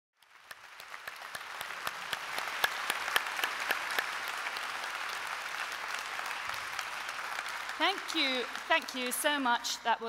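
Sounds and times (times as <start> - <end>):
large audience applauding: 0.2 - 9.8.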